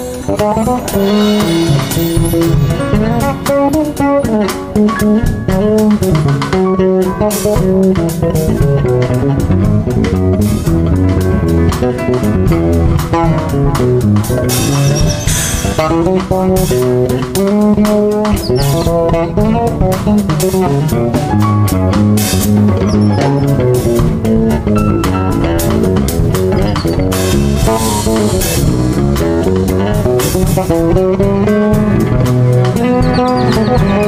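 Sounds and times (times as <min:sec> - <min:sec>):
drum kit: 0:00.0 - 0:34.0
electric bass line: 0:00.0 - 0:34.0
guitar: 0:00.0 - 0:34.0
keyboard: 0:00.0 - 0:34.0.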